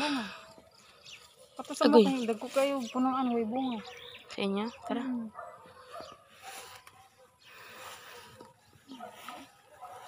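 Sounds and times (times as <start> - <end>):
grass and leaves rustling: 0.0 - 10.0.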